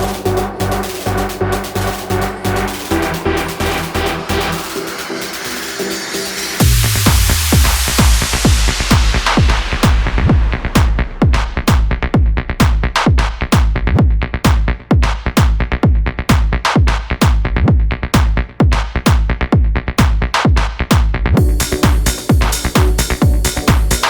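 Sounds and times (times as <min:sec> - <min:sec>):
high percussion: 0:00.0 - 0:17.4, 0:20.0 - 0:24.0
electronic dance music: 0:00.0 - 0:17.5, 0:20.0 - 0:24.0.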